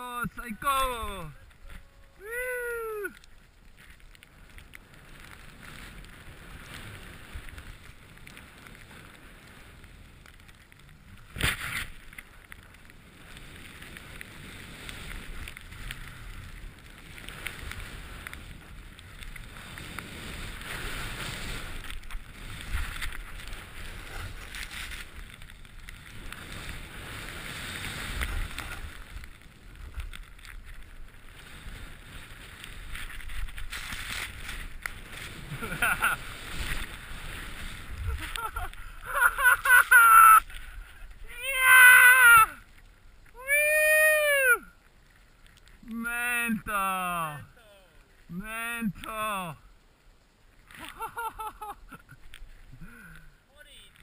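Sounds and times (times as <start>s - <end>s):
skis carving through powder snow: 0.0s - 54.0s.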